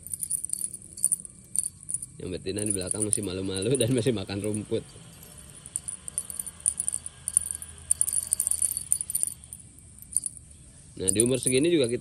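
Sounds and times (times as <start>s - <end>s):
beaded toy jingling against wire: 0.0s - 12.0s.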